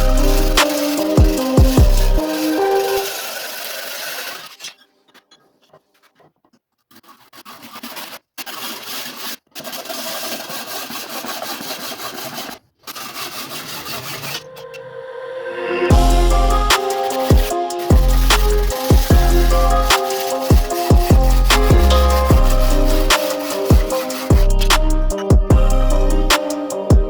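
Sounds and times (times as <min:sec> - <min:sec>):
hand tool rasping hard material: 0:00.0 - 0:14.6, 0:15.9 - 0:27.0.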